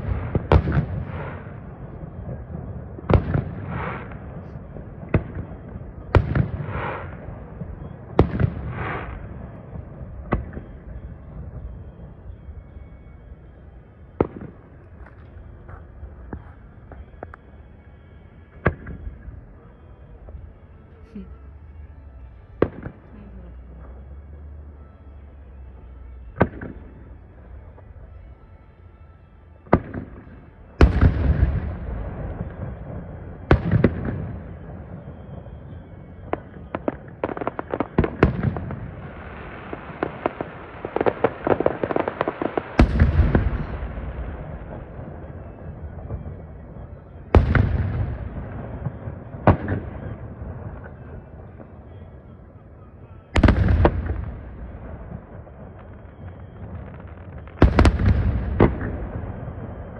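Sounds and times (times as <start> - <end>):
fireworks booming: 0.0 - 13.4, 14.1 - 17.4, 18.4 - 20.6, 22.5 - 23.2, 25.8 - 27.8, 29.7 - 52.3, 53.3 - 59.9.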